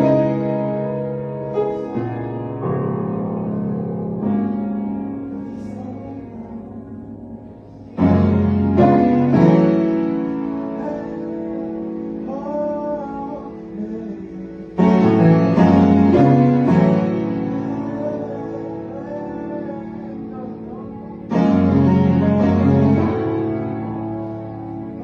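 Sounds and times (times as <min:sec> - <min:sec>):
piano chords: 0:00.0 - 0:25.0
piano held notes ringing: 0:00.0 - 0:25.0.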